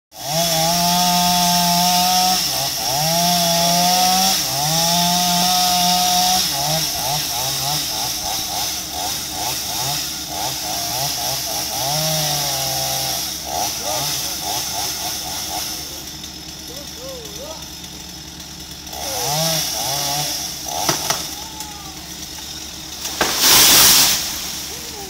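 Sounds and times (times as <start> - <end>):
chainsaw cutting and revving: 0.1 - 25.0.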